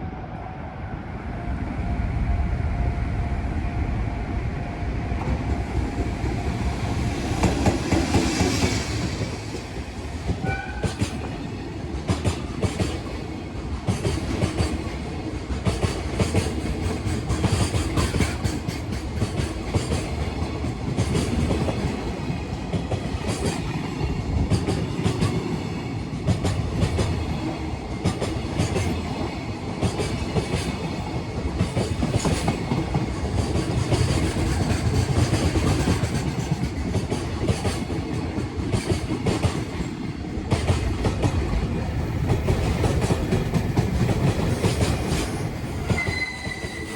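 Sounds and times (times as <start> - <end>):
train wheels rumbling and clicking: 4.2 - 46.9.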